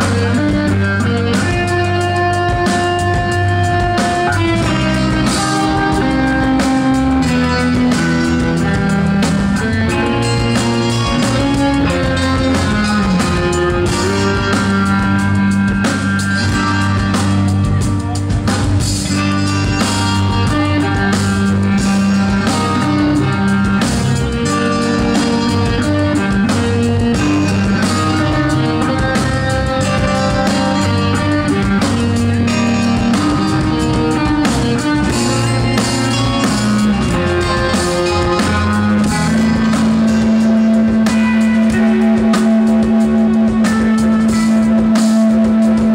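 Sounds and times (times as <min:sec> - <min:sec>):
drum kit: 0:00.0 - 0:45.9
guitar melody: 0:00.0 - 0:45.9
sustained bass notes: 0:00.0 - 0:45.9.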